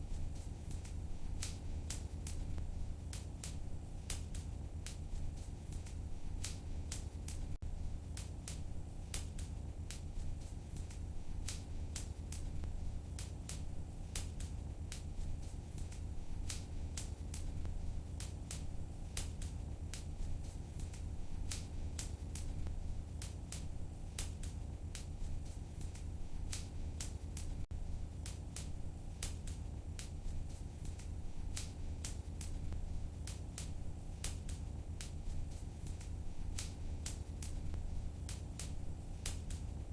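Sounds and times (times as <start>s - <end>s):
fire low rumble: 0.0s - 39.9s
fire crackling and popping: 0.1s - 39.8s.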